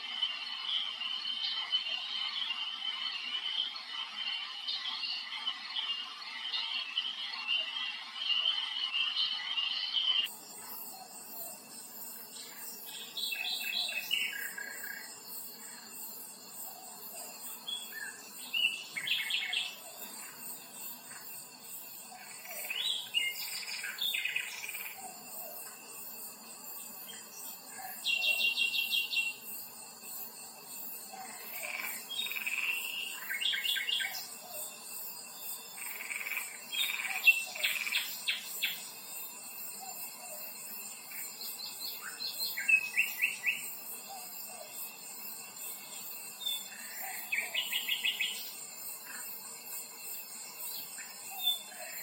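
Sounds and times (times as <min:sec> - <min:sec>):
songbirds singing trills: 0:00.0 - 0:49.4, 0:50.3 - 0:52.0
high-pitched insect buzz: 0:00.0 - 0:52.0.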